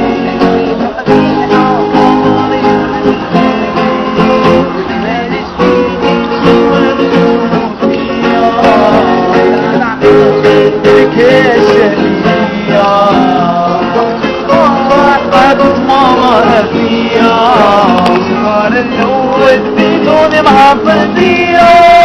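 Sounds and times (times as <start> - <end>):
melodic line with sliding notes: 0.0 - 22.0
strummed and plucked guitar: 0.0 - 22.0.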